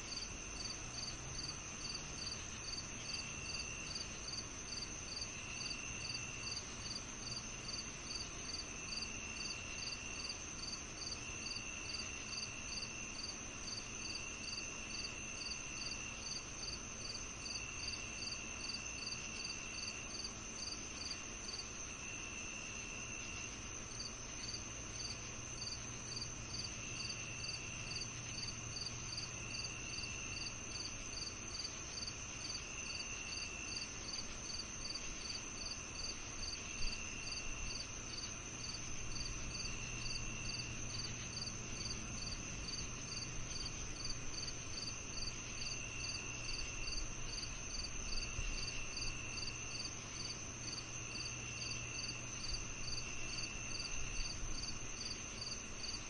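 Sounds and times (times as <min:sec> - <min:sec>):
insect chirping: 0:00.0 - 0:56.0
insects trilling: 0:00.0 - 0:56.0.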